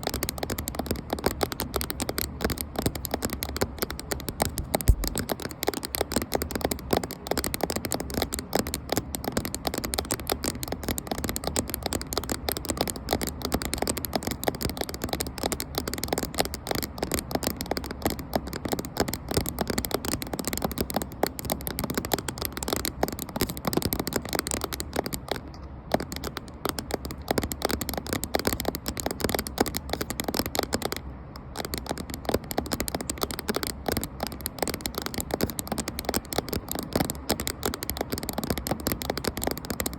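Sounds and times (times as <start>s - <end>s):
rapid tapping on a camera: 0.0s - 39.9s.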